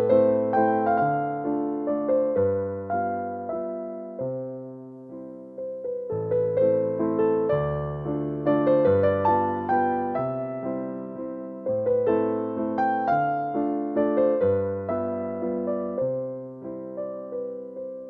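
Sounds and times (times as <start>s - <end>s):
electric piano melody: 0.0s - 18.0s.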